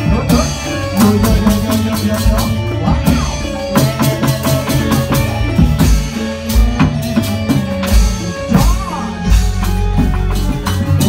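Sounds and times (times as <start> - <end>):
dance music with drums and bass: 0.0 - 11.0.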